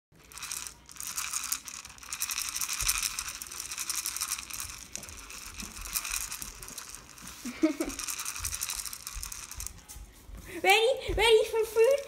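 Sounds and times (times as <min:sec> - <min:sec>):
kibble rattling in a bowl: 0:00.2 - 0:10.0.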